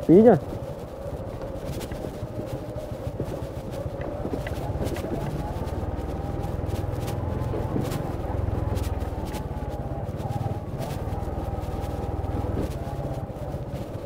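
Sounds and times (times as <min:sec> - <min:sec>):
small motorcycle engine running: 0:00.1 - 0:14.0.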